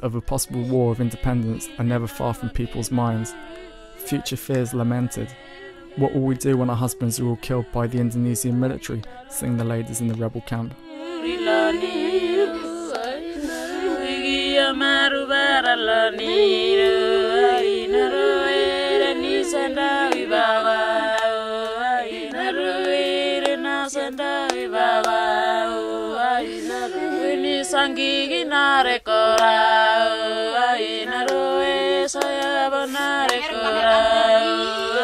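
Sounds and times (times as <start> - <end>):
women singing unaccompanied: 0.2 - 35.0.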